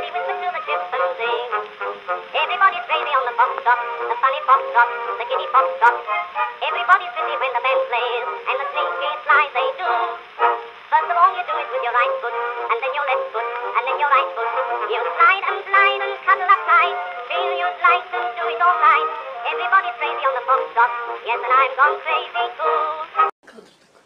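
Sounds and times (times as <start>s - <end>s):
song with high-pitched singing: 0.0s - 23.3s.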